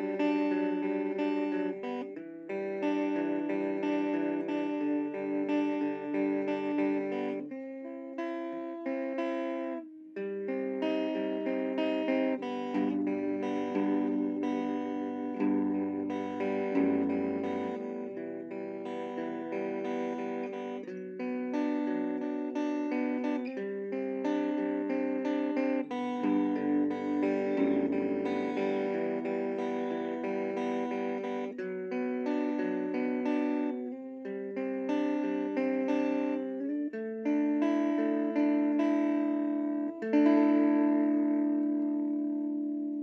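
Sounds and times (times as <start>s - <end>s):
clean electric guitar chords: 0.0s - 43.0s.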